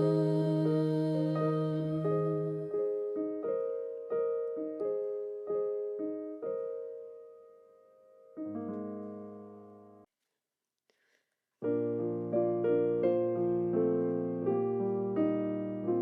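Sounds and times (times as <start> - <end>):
slow piano playing: 0.0 - 10.1, 11.6 - 16.0.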